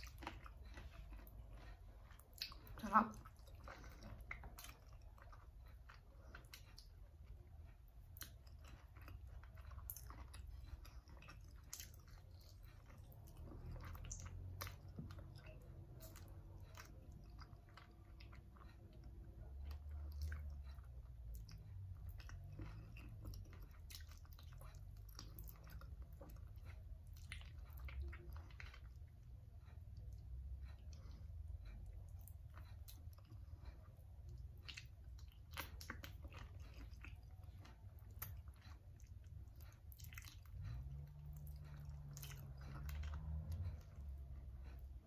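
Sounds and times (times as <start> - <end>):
close-up chewing and biting: 0.0 - 45.0.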